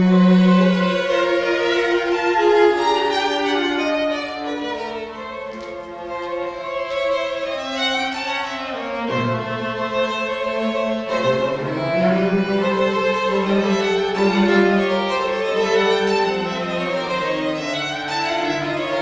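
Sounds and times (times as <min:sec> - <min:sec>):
string trio playing: 0:00.0 - 0:19.0.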